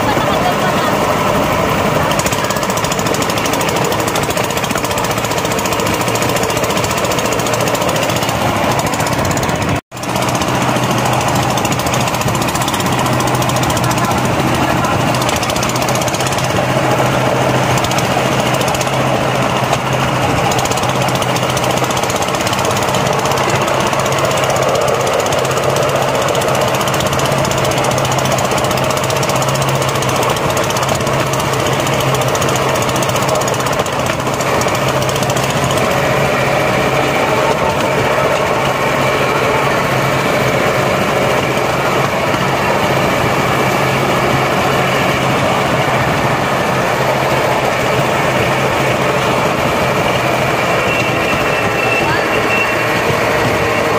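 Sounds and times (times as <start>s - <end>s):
rail car engine rattling: 0.0s - 53.9s.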